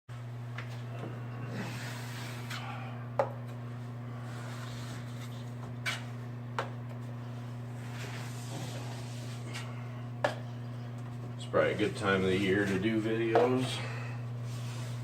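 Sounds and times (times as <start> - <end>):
low electrical hum: 0.1 - 15.0.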